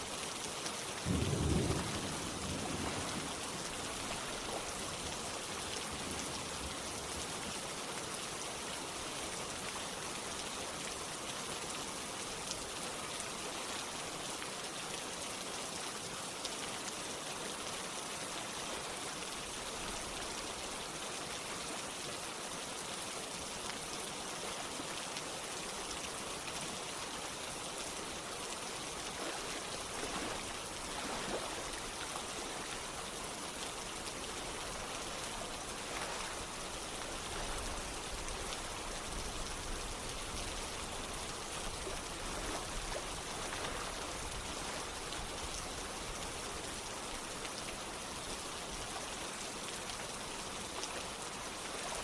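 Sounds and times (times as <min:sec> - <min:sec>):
running water: 0:00.0 - 0:52.0
steady rain falling: 0:00.0 - 0:52.0.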